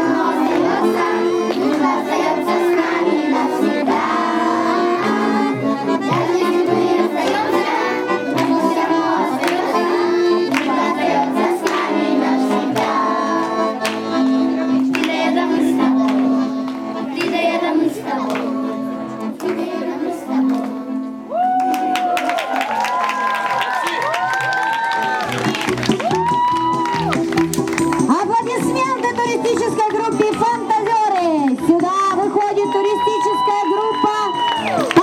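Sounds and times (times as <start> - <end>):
accordion playing a tune: 0.0 - 21.3, 27.2 - 34.2.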